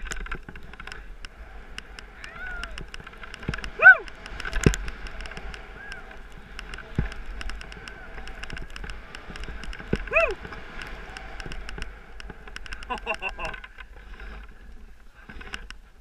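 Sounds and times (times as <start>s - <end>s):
skis rushing through snow: 0.0s - 16.0s
small clicks: 0.0s - 16.0s.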